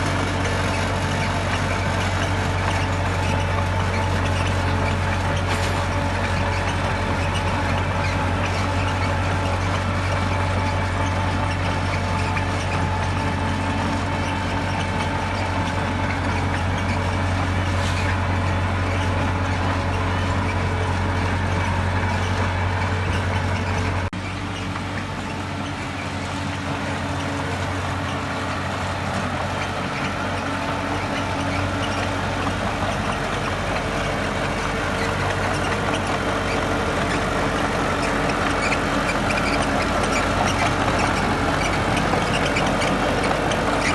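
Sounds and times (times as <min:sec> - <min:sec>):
heavy machinery diesel engines: 0:00.0 - 0:43.9.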